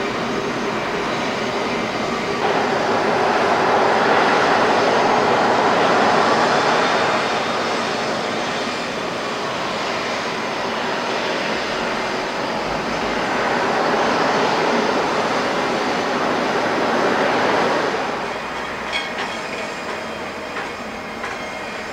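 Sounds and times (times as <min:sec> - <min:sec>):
jet engines whining: 0:00.0 - 0:21.9.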